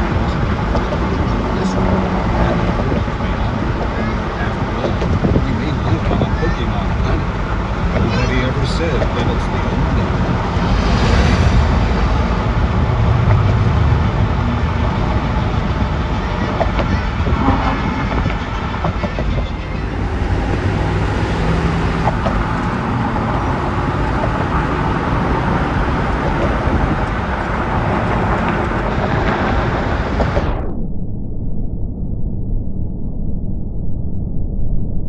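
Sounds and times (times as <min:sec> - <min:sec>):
strong wind rushing: 0:00.0 - 0:31.0
low wind rumble: 0:00.0 - 0:35.0.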